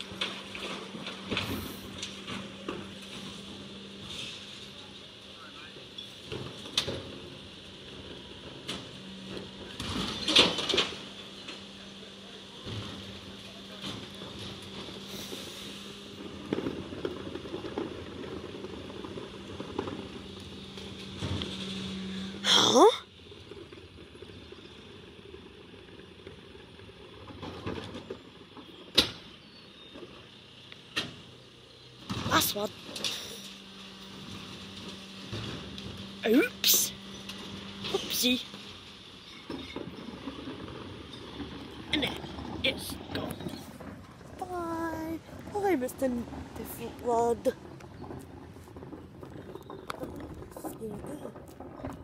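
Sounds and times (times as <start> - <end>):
lorry engine humming: 0.0 - 52.0.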